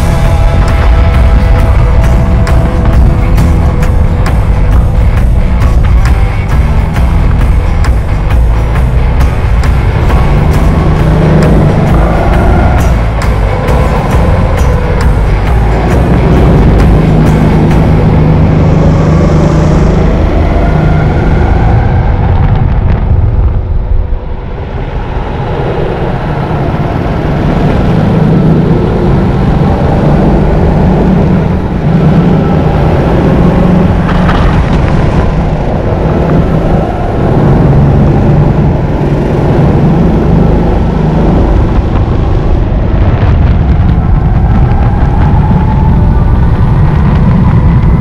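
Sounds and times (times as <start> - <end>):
go-kart engine revving: 0.0 - 21.9, 26.0 - 43.7.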